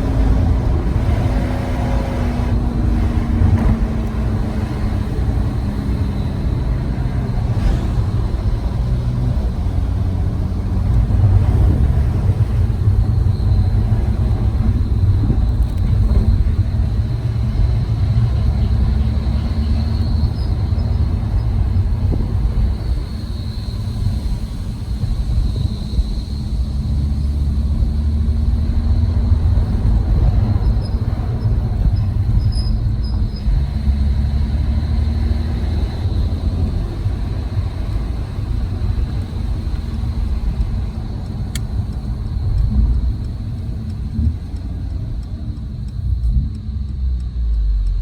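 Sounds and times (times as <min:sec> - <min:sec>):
car engine rumble: 0:00.0 - 0:48.0
road noise: 0:00.0 - 0:48.0.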